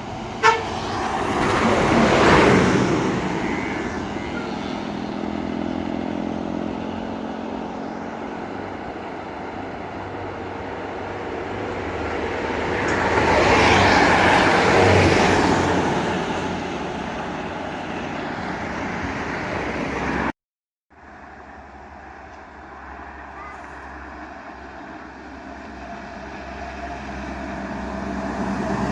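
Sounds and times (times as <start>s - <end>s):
traffic noise: 0.0s - 20.3s, 20.9s - 28.9s
vehicle passing by: 0.1s - 9.8s, 11.6s - 20.3s, 21.4s - 28.9s.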